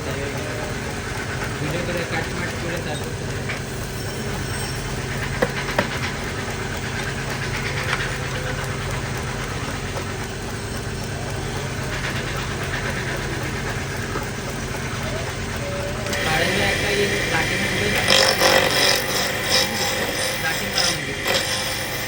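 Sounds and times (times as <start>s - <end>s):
lathe motor running: 0.0s - 22.0s.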